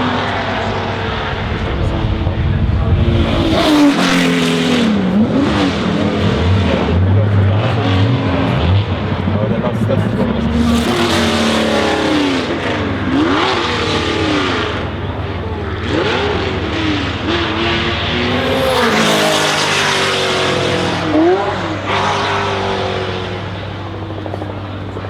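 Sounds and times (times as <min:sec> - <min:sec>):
race car engines accelerating: 0:00.0 - 0:25.0.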